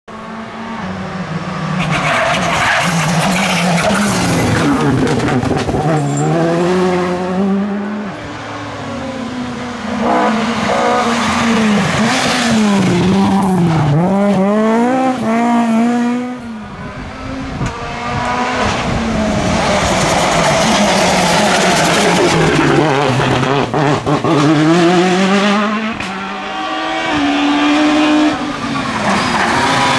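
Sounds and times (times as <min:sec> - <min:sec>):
rally car engine revving: 0:00.1 - 0:29.9.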